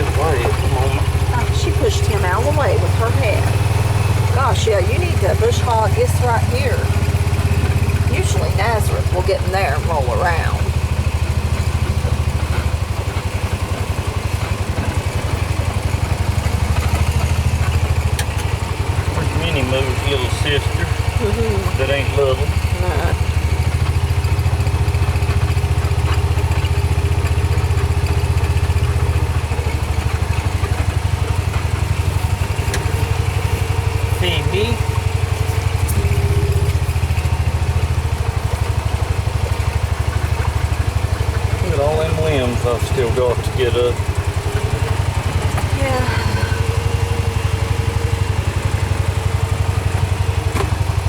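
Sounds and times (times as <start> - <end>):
engine idling: 0.0 - 51.0.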